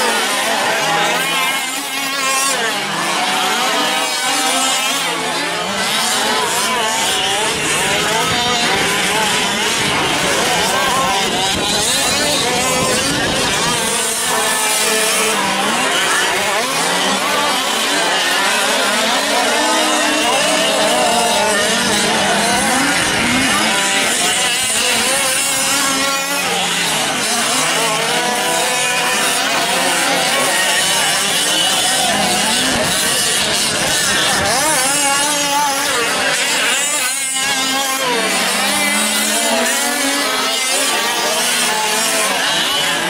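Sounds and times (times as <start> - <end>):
rc truck engines revving: 0.0 - 43.0.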